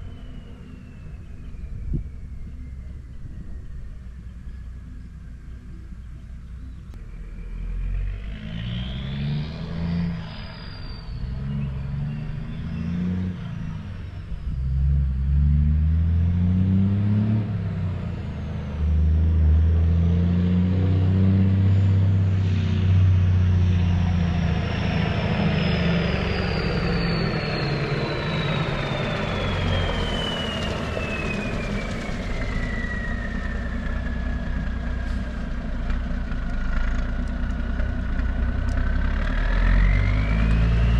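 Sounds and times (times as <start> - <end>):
diesel truck engine pulling hard: 7.0 - 40.9.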